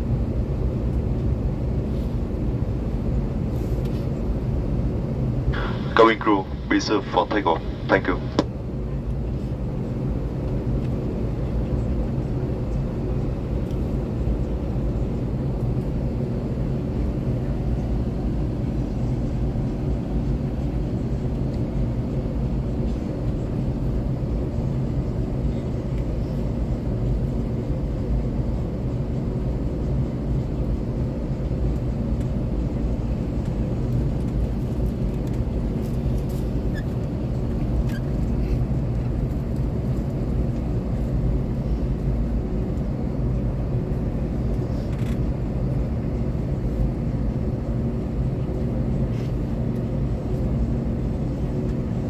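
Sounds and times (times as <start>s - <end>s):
airliner engines droning: 0.0s - 52.0s.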